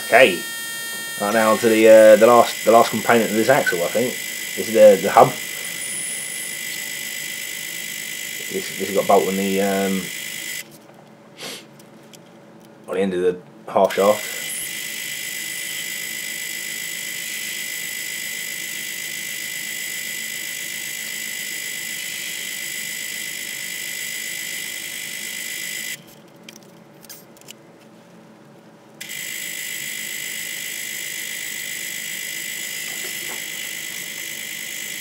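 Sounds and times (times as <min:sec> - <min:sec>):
metal lathe whining: 0:00.0 - 0:10.6, 0:14.2 - 0:26.0, 0:29.0 - 0:35.0.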